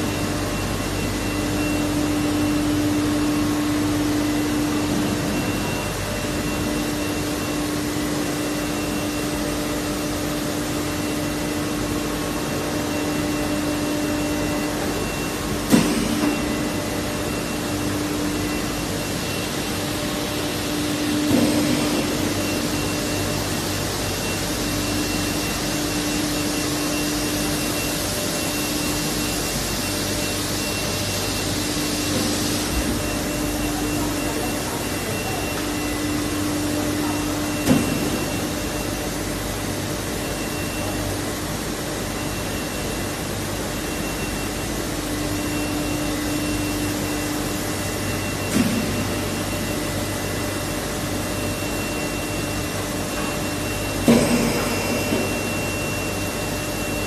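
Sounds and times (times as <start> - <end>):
machinery drone: 0.0 - 57.0.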